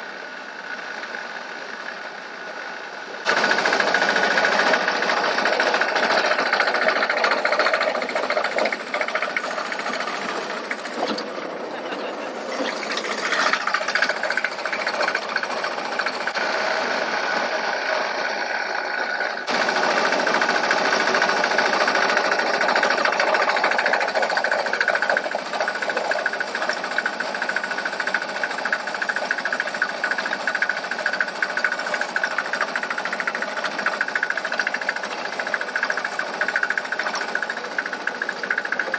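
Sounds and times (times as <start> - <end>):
small engine mechanical clatter: 0.0 - 38.9.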